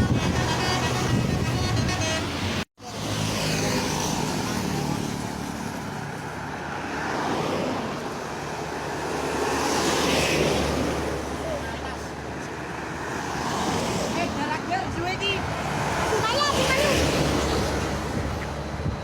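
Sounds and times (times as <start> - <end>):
road traffic engine and tyre noise: 0.0 - 19.0.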